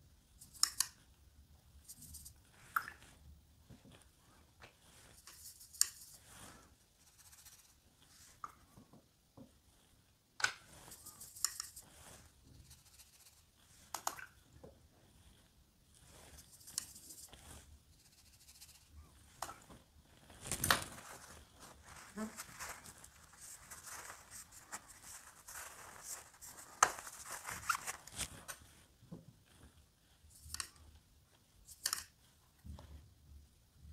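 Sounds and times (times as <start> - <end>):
brush scrubbing and swishing: 1.7 - 8.5, 9.6 - 30.7.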